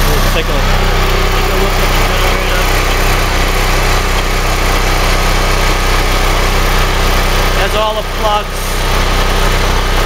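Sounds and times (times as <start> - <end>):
generator engine drone: 0.0 - 10.0.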